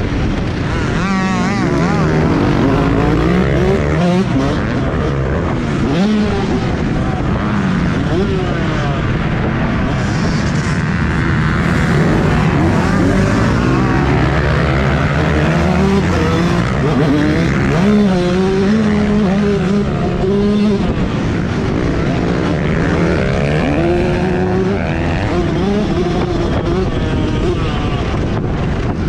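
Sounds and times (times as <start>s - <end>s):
motocross bike engine revving: 0.0s - 29.0s
steady rushing noise: 0.0s - 29.0s.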